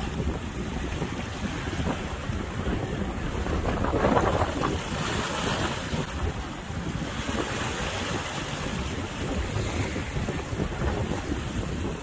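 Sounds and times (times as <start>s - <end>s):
choppy sea waves: 0.0s - 12.0s
wind buffeting microphone: 0.0s - 12.0s.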